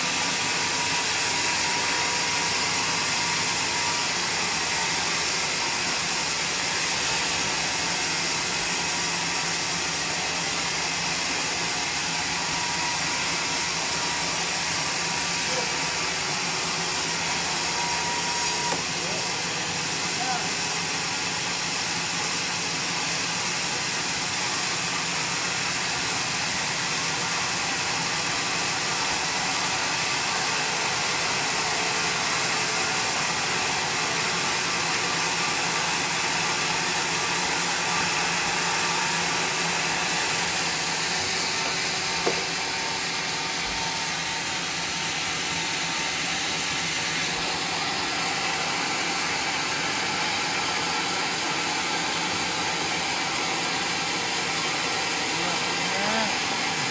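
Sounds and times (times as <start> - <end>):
sawmill sawing a log: 0.0 - 56.9.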